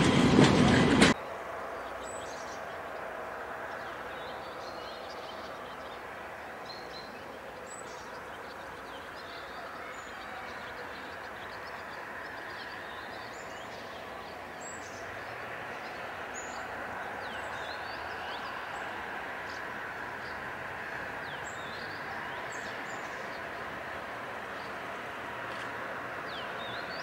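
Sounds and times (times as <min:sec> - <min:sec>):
birds chirping: 0:00.0 - 0:27.0
distant train rumble: 0:00.0 - 0:27.0.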